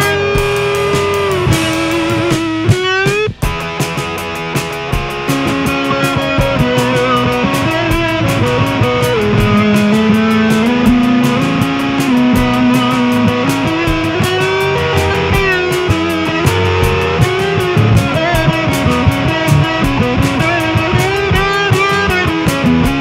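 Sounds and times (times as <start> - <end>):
band music led by guitar: 0.0 - 23.0.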